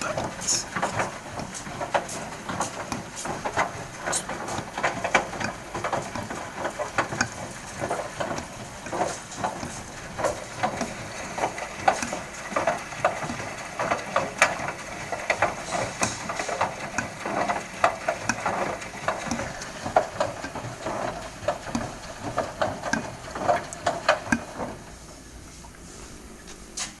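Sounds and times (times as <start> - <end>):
washing machine drum clattering: 0.0 - 25.4.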